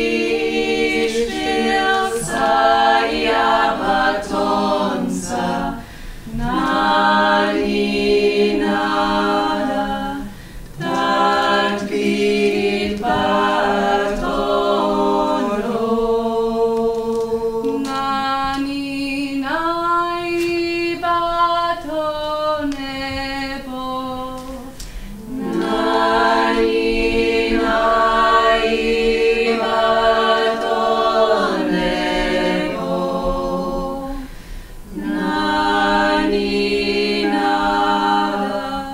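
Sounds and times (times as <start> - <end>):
vocal ensemble singing in harmony: 0.0 - 38.9.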